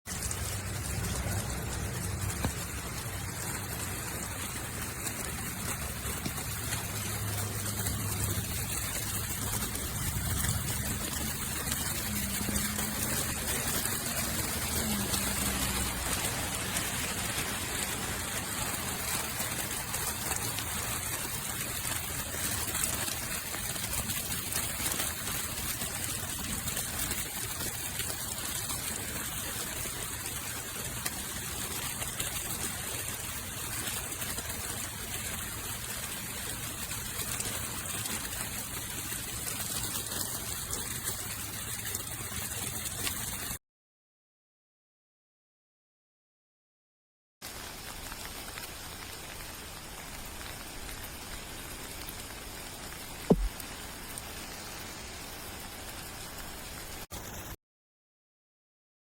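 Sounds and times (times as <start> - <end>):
water trickling down rain chain: 0.1 - 43.6, 47.4 - 57.3.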